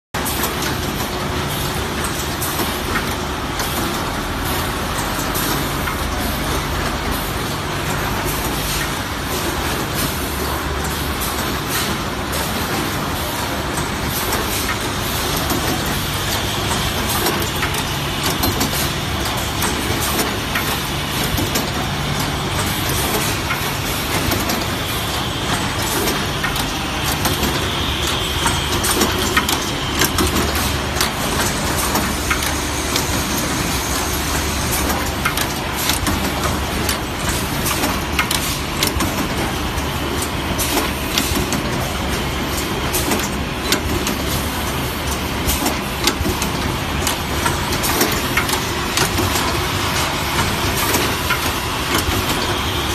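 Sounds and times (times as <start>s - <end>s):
pneumatic machine clicks and clacks: 0.2s - 52.9s.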